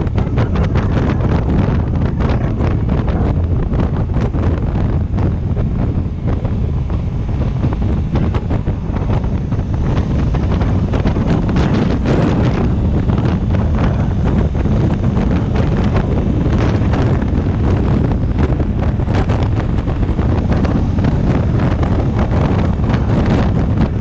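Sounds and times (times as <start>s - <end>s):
low drone of motorcycle and road: 0.0s - 24.0s
wind buffeting microphone: 0.0s - 24.0s.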